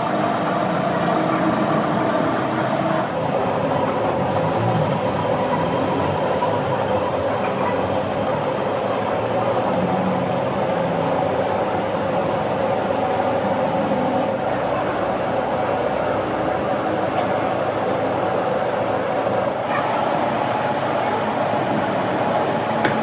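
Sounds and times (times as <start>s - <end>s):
machine running steadily: 0.0s - 23.0s.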